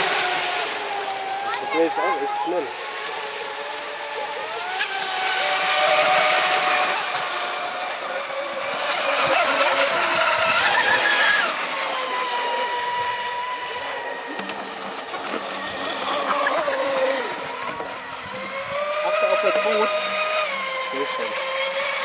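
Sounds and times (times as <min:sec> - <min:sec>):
electric motor whine: 0:00.0 - 0:22.0
rush of spray from boat hulls: 0:00.0 - 0:22.0.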